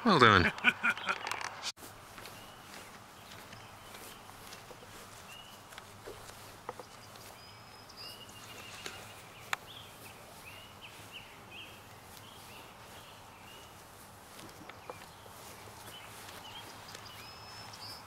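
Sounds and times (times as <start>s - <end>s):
small bird chirping: 2.2s - 18.0s.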